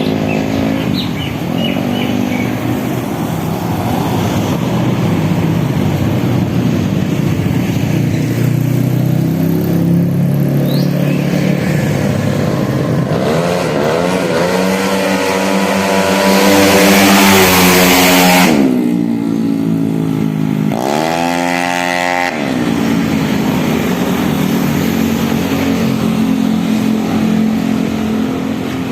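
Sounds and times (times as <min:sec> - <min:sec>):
scooter engine idling and revving: 0:00.0 - 0:28.9.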